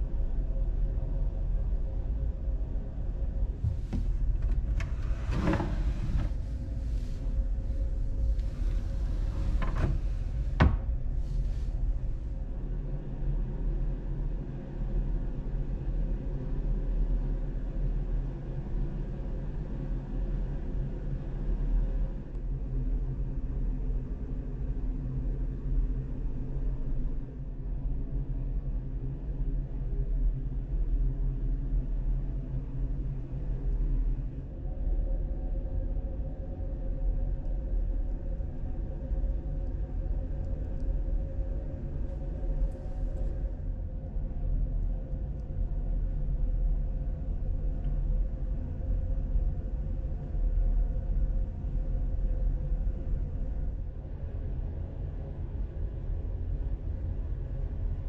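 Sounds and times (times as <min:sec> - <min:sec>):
low rumbling hum: 0:00.0 - 0:58.0.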